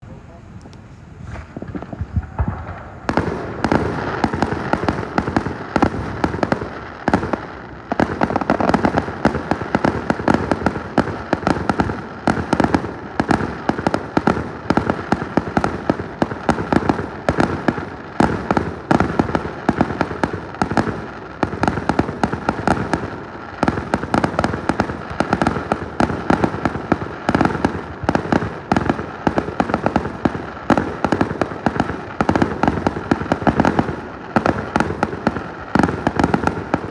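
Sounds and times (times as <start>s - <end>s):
fireworks popping and banging: 0.0s - 36.9s.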